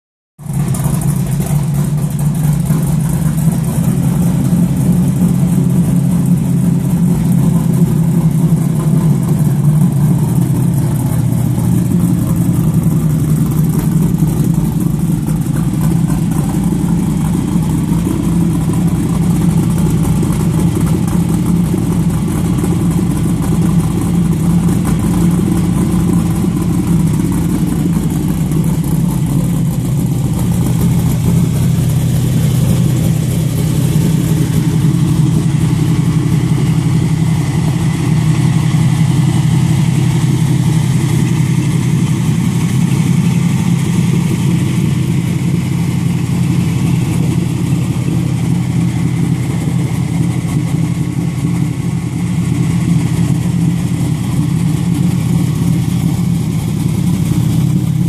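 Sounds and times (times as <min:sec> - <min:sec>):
car engine idling: 0:00.4 - 0:58.0.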